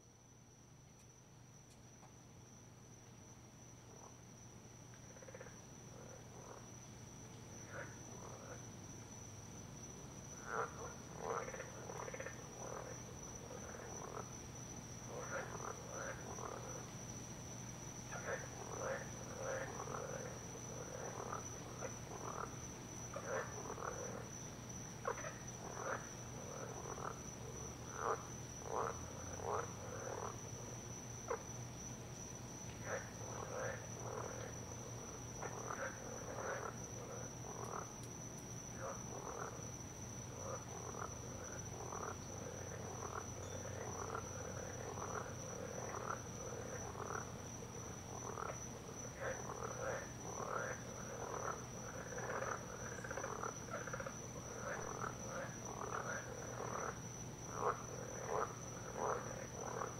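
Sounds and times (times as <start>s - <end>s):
frogs croaking: 1.0s - 59.9s.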